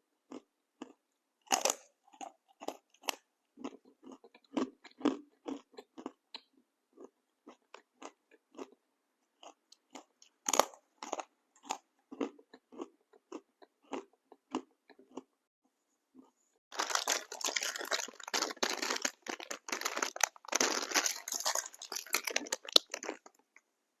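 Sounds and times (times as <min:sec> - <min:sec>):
chewing crunchy snack: 0:00.3 - 0:08.8, 0:09.4 - 0:15.3, 0:16.2 - 0:23.6.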